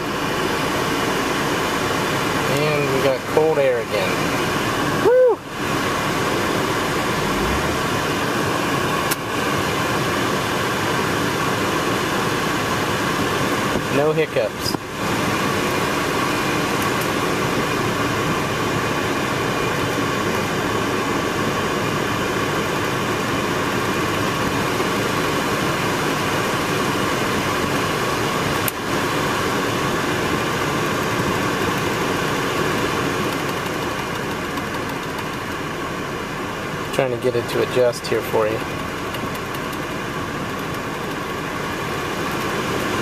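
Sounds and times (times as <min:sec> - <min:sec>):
car air blower rushing: 0:00.0 - 0:43.0
car engine idling: 0:00.0 - 0:43.0.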